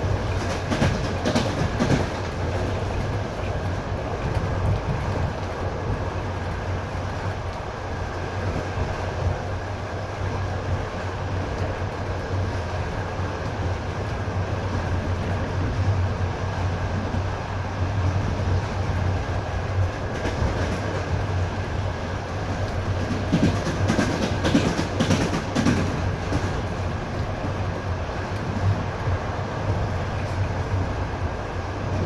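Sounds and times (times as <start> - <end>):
train carriage rumble: 0.0 - 32.0.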